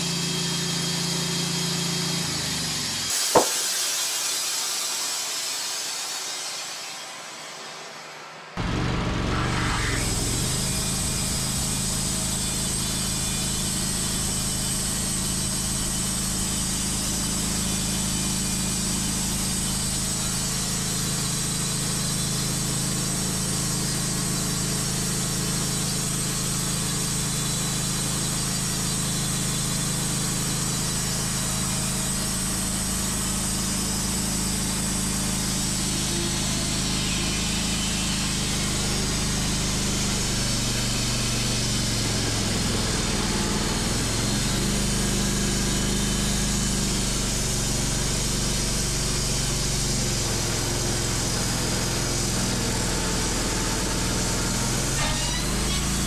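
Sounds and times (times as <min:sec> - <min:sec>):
band sawmill sawing log: 0:00.0 - 0:56.0.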